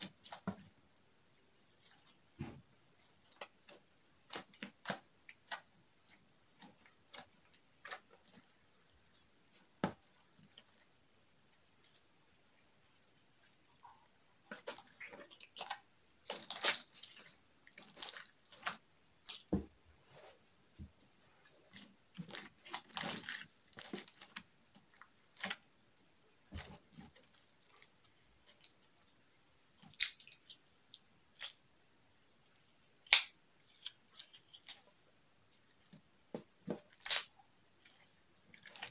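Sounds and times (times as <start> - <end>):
slime squelching: 0.0 - 20.3, 21.2 - 31.6, 32.4 - 38.9.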